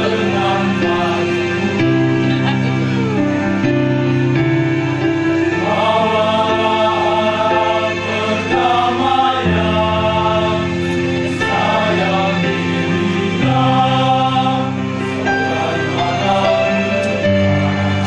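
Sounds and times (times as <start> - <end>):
male choir singing in harmony: 0.0 - 18.0.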